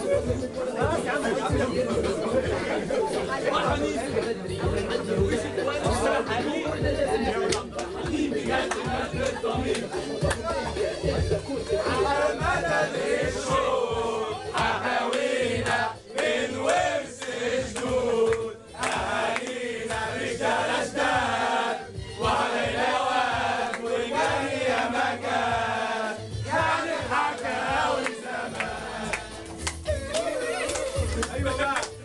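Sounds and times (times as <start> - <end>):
young men chanting together: 0.9 - 29.6.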